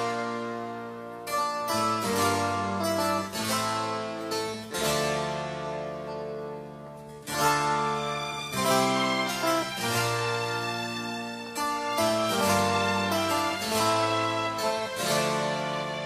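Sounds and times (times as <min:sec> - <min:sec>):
instrumental chords ringing: 0:00.0 - 0:16.0.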